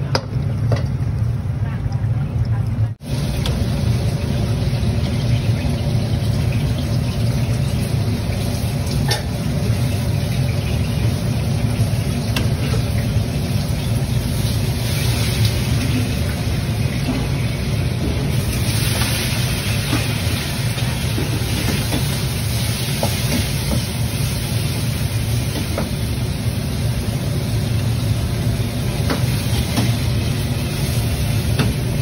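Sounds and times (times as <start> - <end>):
low machine rumble: 0.0 - 32.0.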